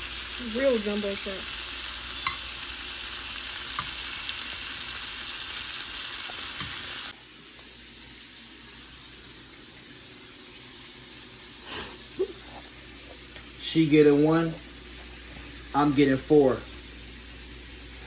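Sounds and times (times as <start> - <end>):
shrimp sizzling in a pan: 0.0 - 18.0.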